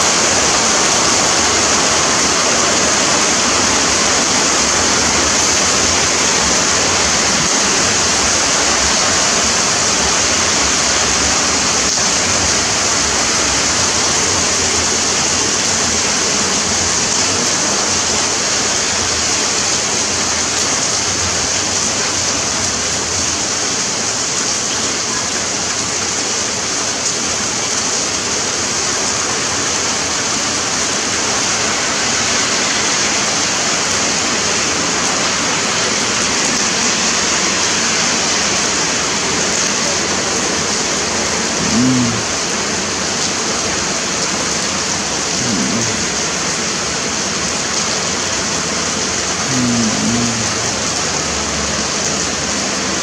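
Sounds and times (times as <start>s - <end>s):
torrential rain pouring: 0.0s - 53.0s.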